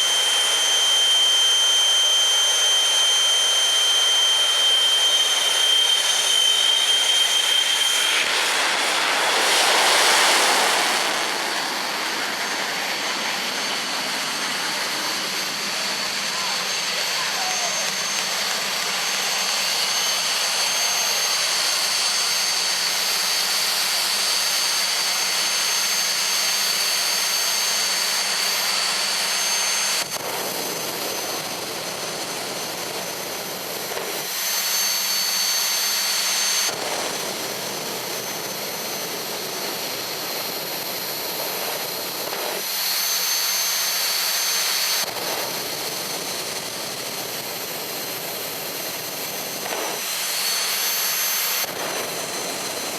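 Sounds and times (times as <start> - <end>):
high steady turbine whine: 0.0 - 52.9
jet turbine engine roaring: 0.0 - 52.9.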